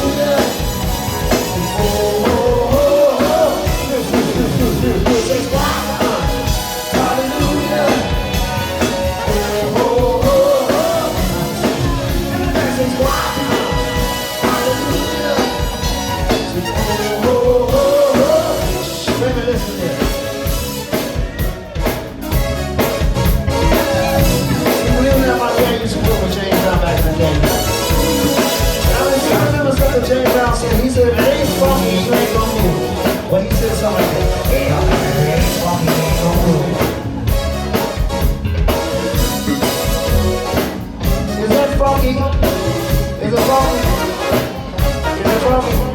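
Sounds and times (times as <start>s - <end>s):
person singing: 0.0s - 38.0s, 39.1s - 45.9s
drum kit beat: 0.0s - 45.9s
live band music: 0.0s - 45.9s.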